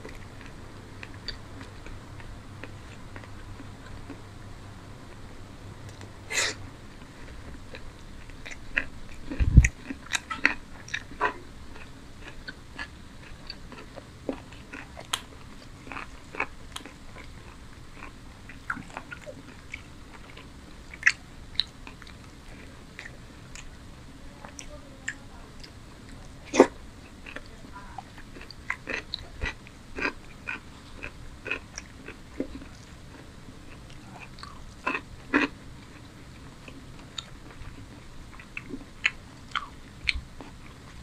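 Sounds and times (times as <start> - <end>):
close chewing with crunches: 0.0 - 4.4, 5.0 - 41.0.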